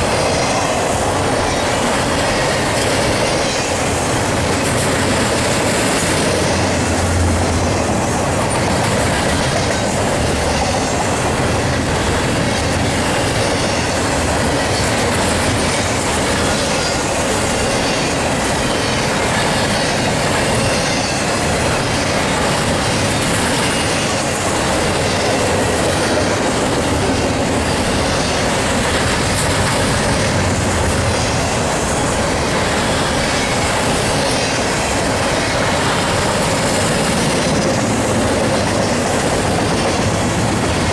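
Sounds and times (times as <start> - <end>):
freight train rumbling past: 0.0 - 40.9
wheels clicking over rail joints: 0.0 - 40.9.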